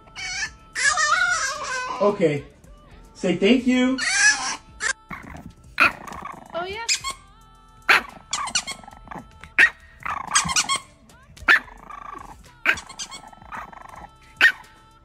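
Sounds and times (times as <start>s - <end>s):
puppy drawn-out vocal sounds: 0.0s - 2.2s, 4.0s - 7.3s, 7.9s - 14.9s
puppy yapping: 0.1s - 2.2s, 4.0s - 7.2s, 7.9s - 14.8s.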